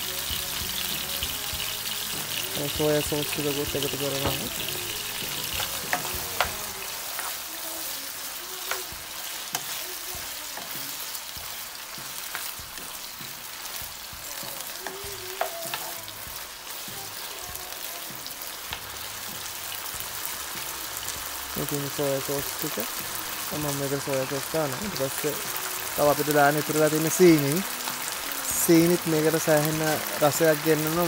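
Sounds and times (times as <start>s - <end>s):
meat sizzling in a frying pan: 0.0s - 31.0s.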